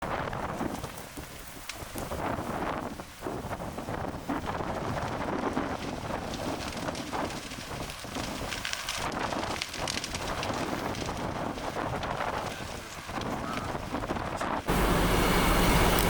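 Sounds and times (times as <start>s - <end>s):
fire crackling and popping: 0.0s - 16.0s
wildfire roaring: 0.0s - 16.0s
wind buffeting microphone: 0.0s - 16.0s.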